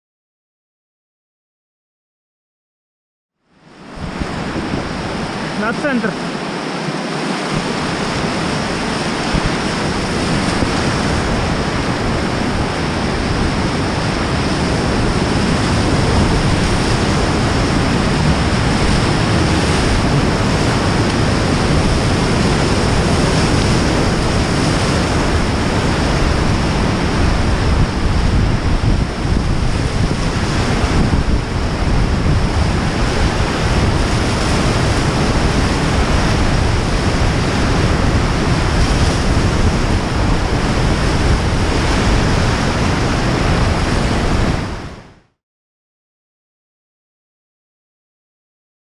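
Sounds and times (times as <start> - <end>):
wind noise on microphone: 3.6 - 45.4
whitewater rapid rushing: 3.8 - 45.1.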